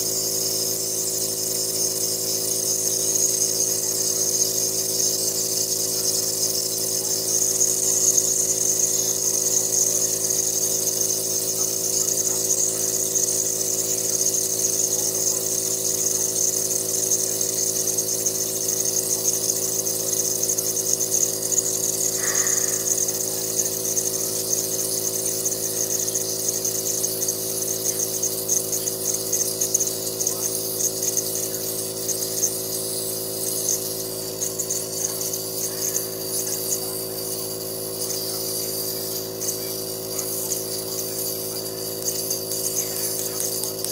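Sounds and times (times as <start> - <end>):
air hissing: 0.0 - 13.9, 19.6 - 43.9
compressor humming: 0.0 - 43.9.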